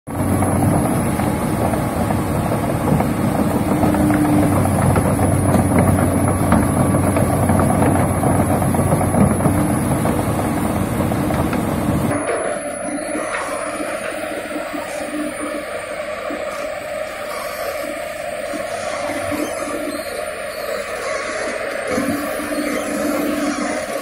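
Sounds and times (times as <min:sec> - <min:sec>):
excavator diesel engine running: 0:00.1 - 0:24.0.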